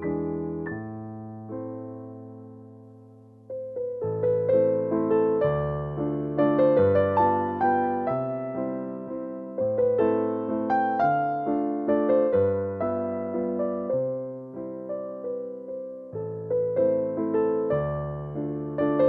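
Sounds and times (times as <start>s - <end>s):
slow solo piano melody: 0.0s - 19.0s.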